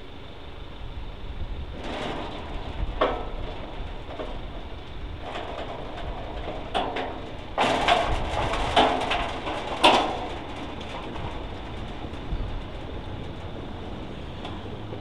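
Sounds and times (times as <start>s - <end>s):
level-crossing gates rattling and clanking: 1.8s - 15.0s.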